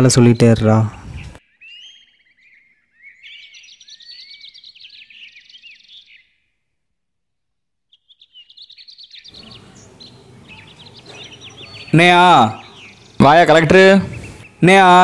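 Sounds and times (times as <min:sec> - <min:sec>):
small birds chirping and singing: 0:00.0 - 0:06.8, 0:07.9 - 0:15.0.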